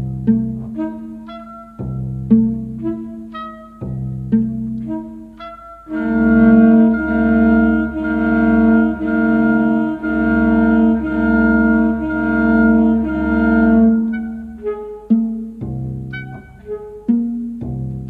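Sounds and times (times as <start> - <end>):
low bass note: 0.0 - 18.0
sustained chords: 0.0 - 18.0.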